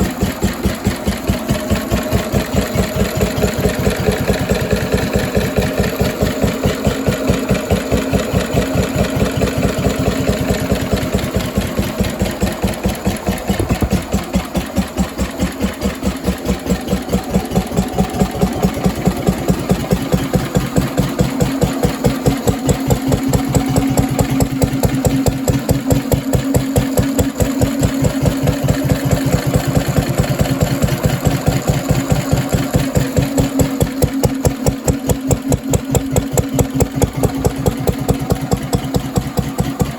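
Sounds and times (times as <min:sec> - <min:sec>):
stationary engine thumping: 0:00.0 - 0:39.9.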